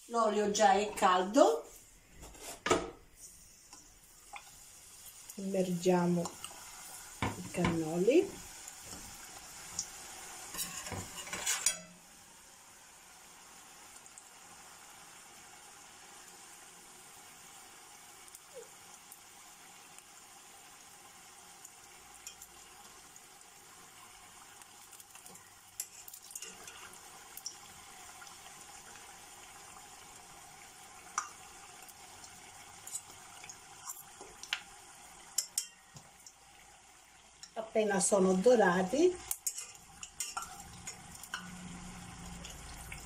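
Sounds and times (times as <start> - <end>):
pastry deep-frying in oil: 0.0 - 43.0.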